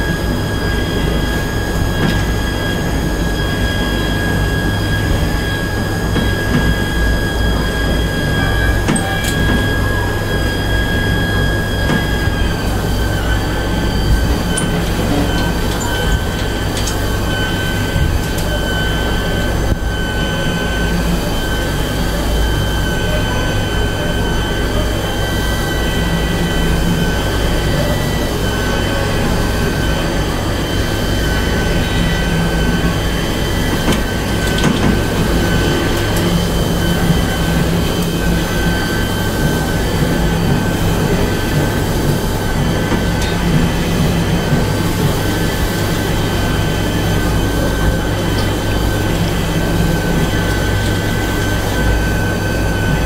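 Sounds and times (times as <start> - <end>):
high-pitched whine: 0.0 - 53.0.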